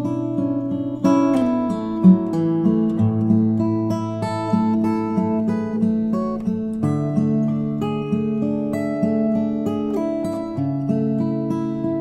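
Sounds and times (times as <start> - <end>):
plucked instrumental music: 0.0 - 12.0.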